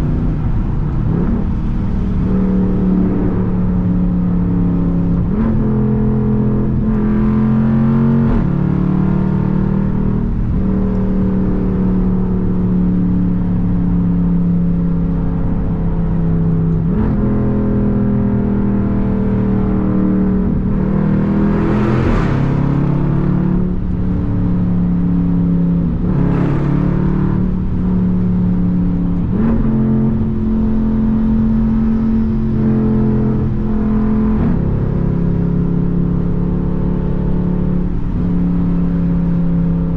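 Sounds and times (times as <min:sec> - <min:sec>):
car exhaust cruising: 0:00.0 - 0:39.9.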